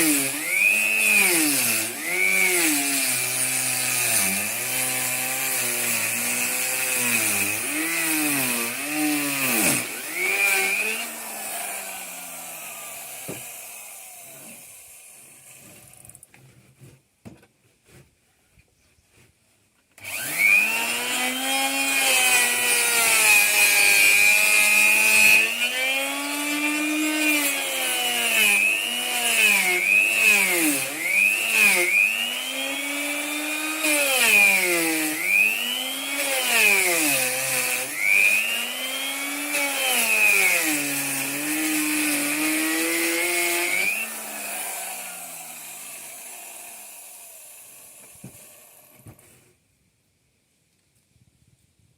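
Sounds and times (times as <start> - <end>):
electric wood router cutting wood: 0.0 - 16.3, 20.0 - 49.2.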